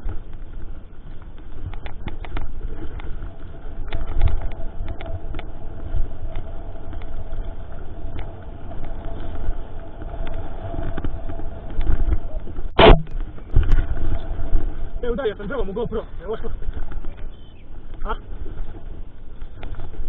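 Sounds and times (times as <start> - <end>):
bike tyres rumbling over rough ground: 0.0 - 20.0
wind on microphone: 0.0 - 20.0.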